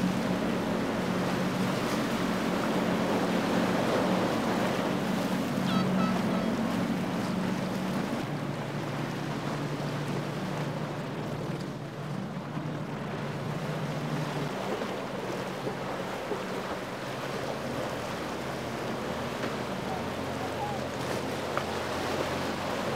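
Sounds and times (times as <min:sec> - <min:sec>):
boat engine humming: 0:00.0 - 0:22.9
choppy sea water washing: 0:00.0 - 0:22.9.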